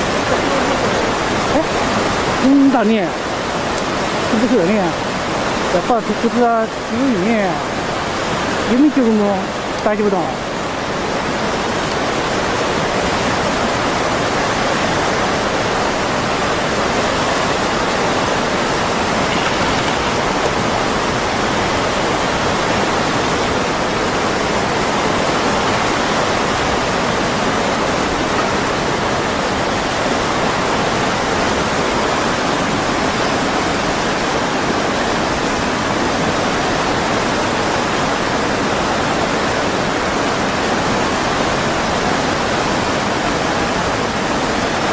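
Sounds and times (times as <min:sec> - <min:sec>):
floodwater rushing: 0:00.0 - 0:44.9.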